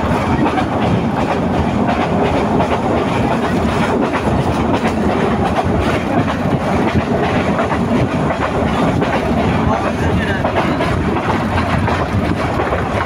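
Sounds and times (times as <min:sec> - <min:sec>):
train rumble and rush: 0:00.0 - 0:13.0
wheels clicking on rails: 0:00.0 - 0:13.0.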